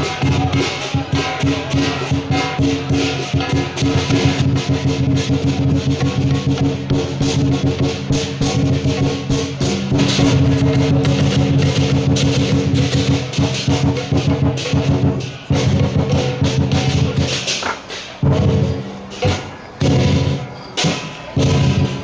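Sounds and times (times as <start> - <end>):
music with percussive beat: 0.0 - 22.0.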